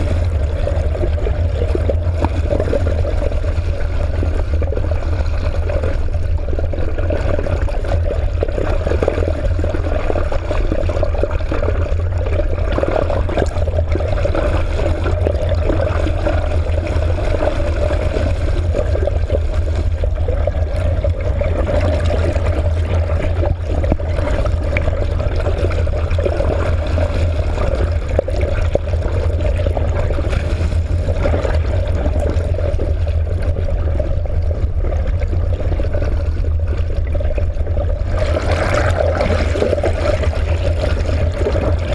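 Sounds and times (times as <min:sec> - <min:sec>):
low rumble: 0:00.0 - 0:41.9
water rushing and gurgling: 0:00.0 - 0:41.9.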